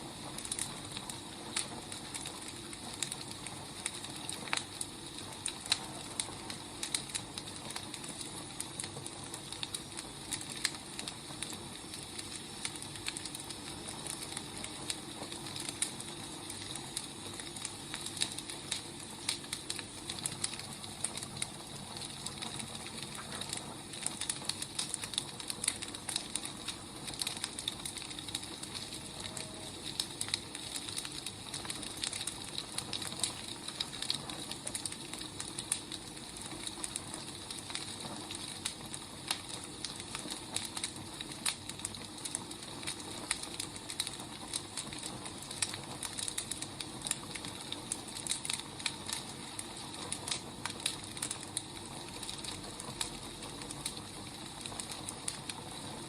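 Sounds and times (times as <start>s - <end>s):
burning firewood crackling: 0.0s - 56.0s.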